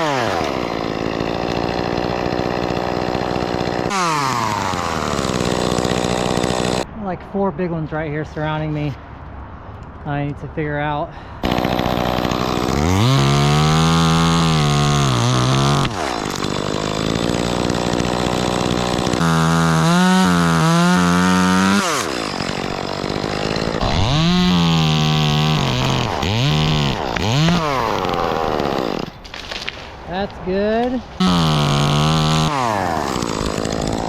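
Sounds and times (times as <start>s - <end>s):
chainsaw revving: 0.0s - 6.9s, 11.4s - 29.4s, 31.2s - 34.0s.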